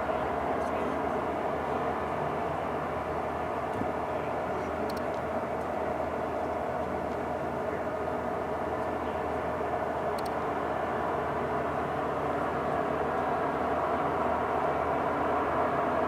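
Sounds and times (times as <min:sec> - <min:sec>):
heavy diesel machinery drone: 0:00.0 - 0:16.0.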